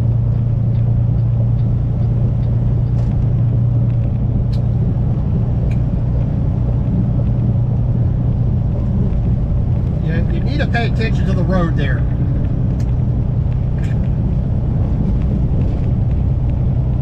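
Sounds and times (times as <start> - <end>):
road noise: 0.0 - 17.0
truck diesel engine droning: 0.0 - 17.0.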